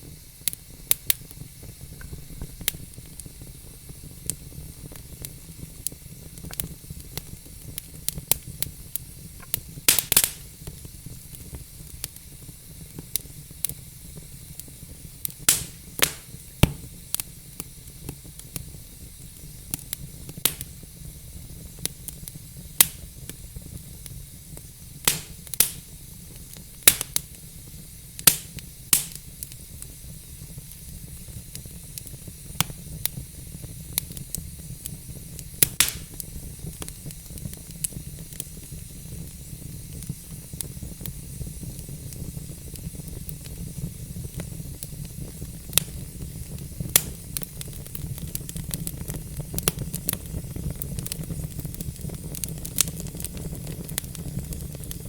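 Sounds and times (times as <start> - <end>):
fire pops and snaps: 0.0 - 55.0
wood fire crackling: 0.0 - 55.0.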